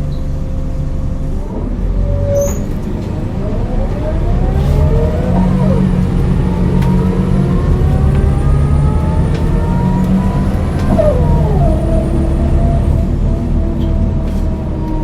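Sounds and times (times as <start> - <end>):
diesel bus engine accelerating: 0.0 - 15.0.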